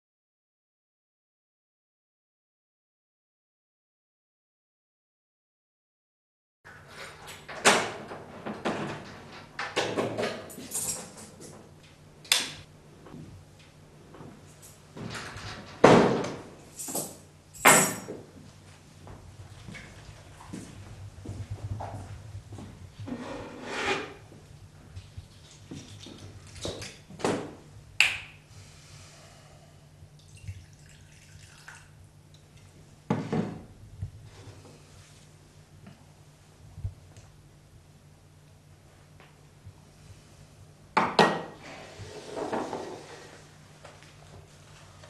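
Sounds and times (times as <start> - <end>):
faint steady hum: 6.7 - 45.0.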